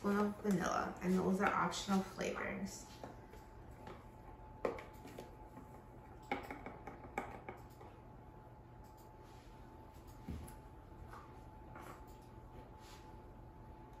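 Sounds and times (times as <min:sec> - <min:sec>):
faint kitchen hum: 0:00.0 - 0:14.0.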